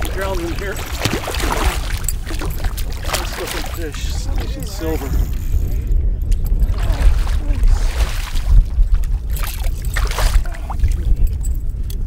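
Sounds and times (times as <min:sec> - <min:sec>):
fish thrashing and splashing: 0:00.0 - 0:05.4, 0:06.6 - 0:11.1
steady low rumble: 0:00.0 - 0:12.0.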